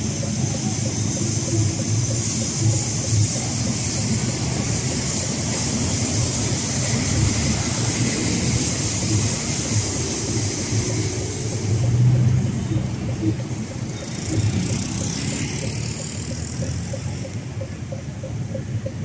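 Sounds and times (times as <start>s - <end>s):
city street traffic din: 0.0s - 19.0s
elevated train rumbling: 0.0s - 19.0s.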